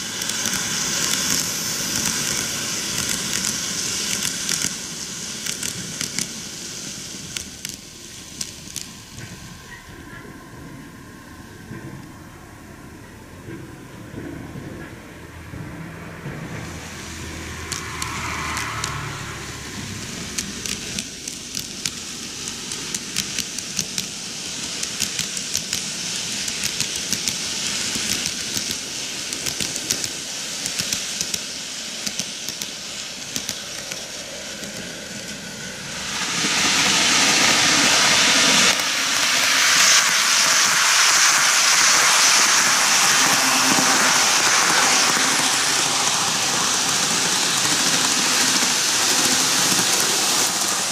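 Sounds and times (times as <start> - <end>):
model train wheels clicking: 0.0 - 10.3, 16.2 - 50.9
model train rushing past: 0.0 - 50.9.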